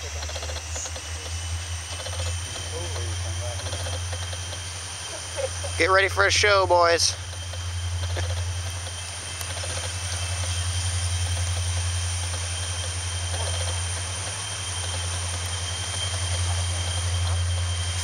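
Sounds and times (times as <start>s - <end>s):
diesel locomotive engine drone: 0.0s - 18.0s
turbocharger whine: 0.0s - 18.0s.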